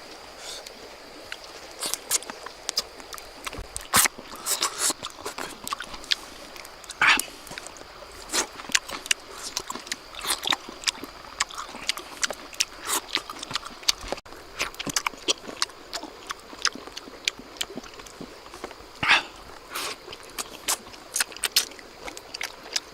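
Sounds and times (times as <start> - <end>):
wet chewing and lip smacking: 0.5 - 22.9.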